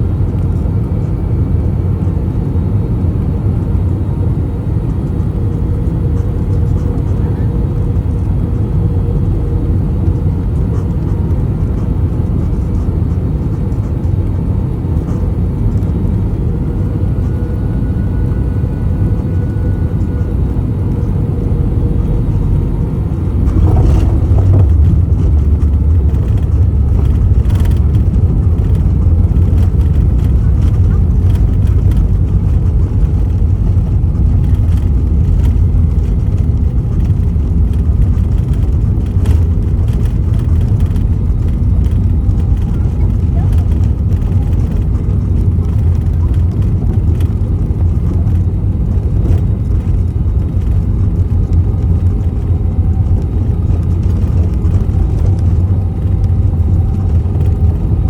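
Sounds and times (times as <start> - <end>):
aircraft engine drone: 0.0 - 58.0
wheels rumbling and rattling on runway: 0.0 - 58.0.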